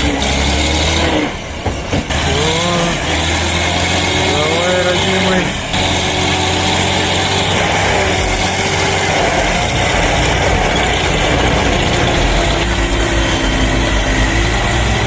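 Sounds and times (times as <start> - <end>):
diesel engine straining under load: 0.0 - 15.0.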